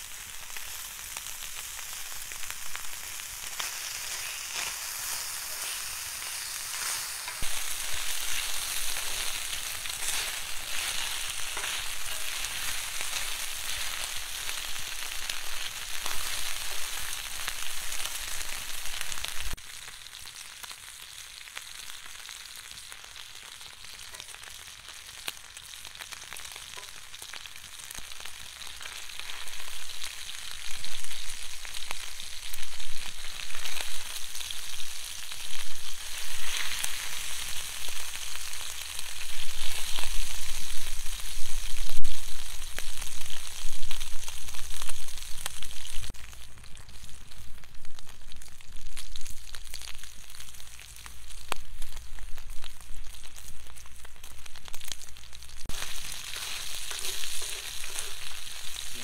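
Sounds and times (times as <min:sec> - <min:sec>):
meat sizzling on a griddle: 0:00.0 - 0:59.0.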